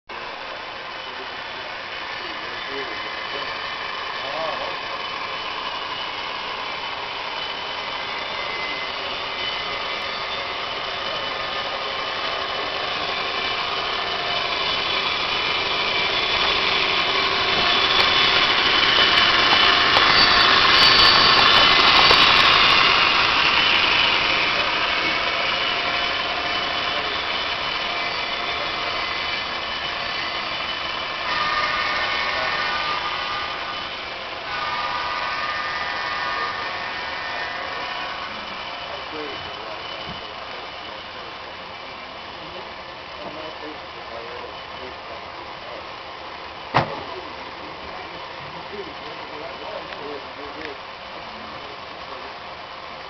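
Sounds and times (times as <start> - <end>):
model locomotive diesel engine sound: 0.1 - 53.0
wheels rolling on track: 0.1 - 53.0.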